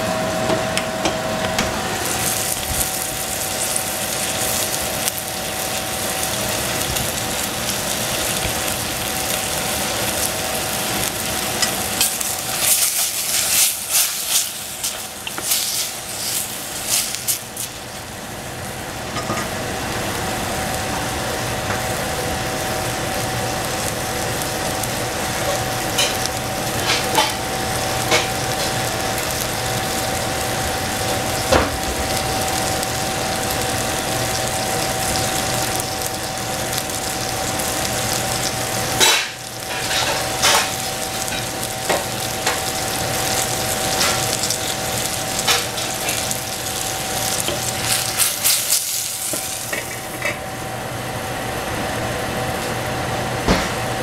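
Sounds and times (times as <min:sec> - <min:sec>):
food sizzling in hot oil: 0:01.7 - 0:54.0.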